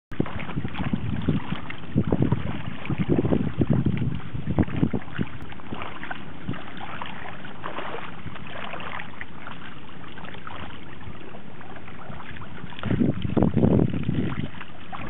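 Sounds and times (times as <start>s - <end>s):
dog splashing through water: 0.1s - 15.0s
wind and water rushing: 0.1s - 15.0s.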